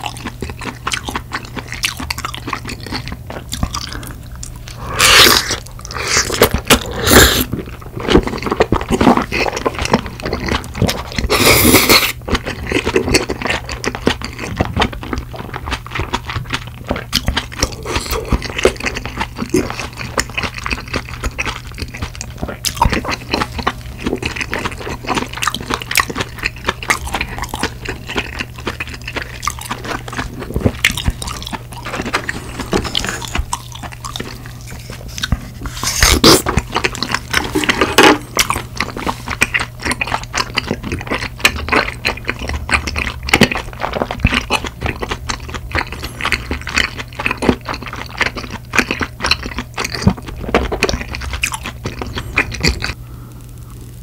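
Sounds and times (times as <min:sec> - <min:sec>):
wet chewing and lip smacking: 0:00.0 - 0:53.0.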